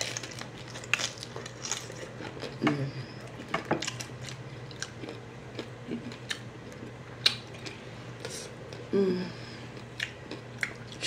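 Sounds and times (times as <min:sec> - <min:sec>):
person chewing crunchy food: 0:00.0 - 0:02.6, 0:03.2 - 0:08.9, 0:09.7 - 0:11.0.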